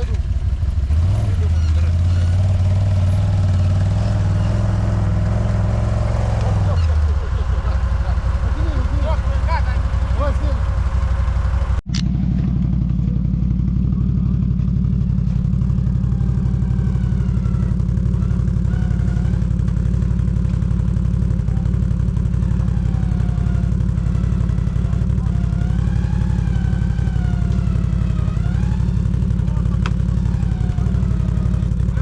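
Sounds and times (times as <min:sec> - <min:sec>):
quad bike engine idling: 0:00.0 - 0:32.0.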